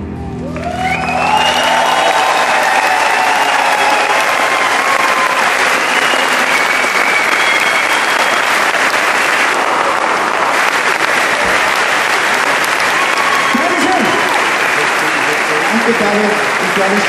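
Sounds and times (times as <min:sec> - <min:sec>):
audience applauding: 0:00.4 - 0:17.0.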